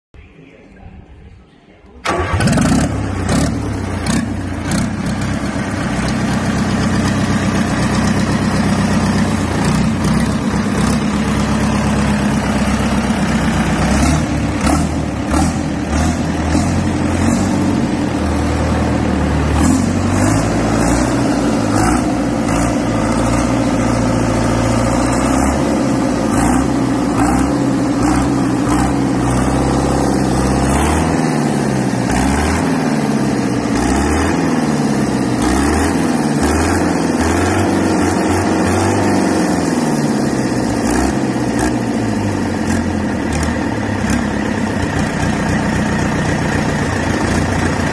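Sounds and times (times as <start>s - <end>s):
diesel engine running: 2.0s - 47.9s.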